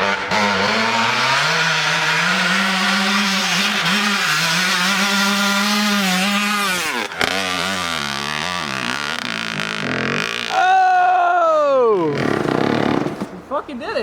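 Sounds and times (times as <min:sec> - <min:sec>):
dirt bike engine revving: 0:00.0 - 0:10.8, 0:12.0 - 0:13.4.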